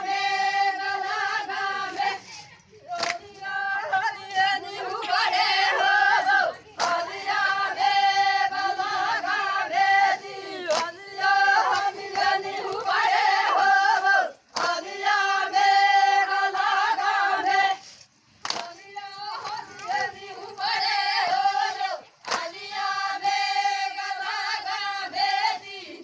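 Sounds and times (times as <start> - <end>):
voices singing folk song: 0.0 - 26.0.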